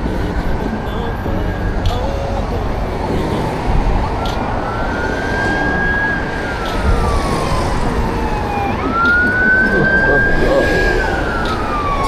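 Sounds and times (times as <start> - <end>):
emergency siren wailing: 0.0 - 12.0
steady rushing noise: 0.0 - 12.0.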